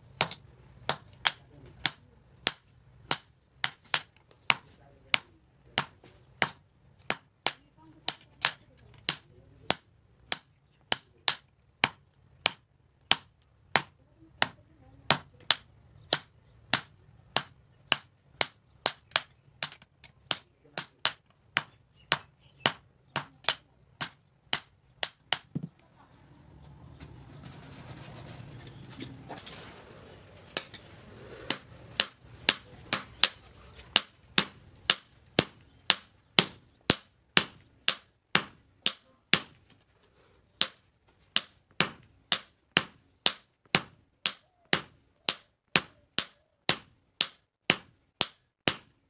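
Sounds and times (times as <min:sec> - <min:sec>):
hammer striking steel on anvil: 0:00.2 - 0:25.6, 0:31.5 - 0:39.7, 0:40.6 - 0:49.0.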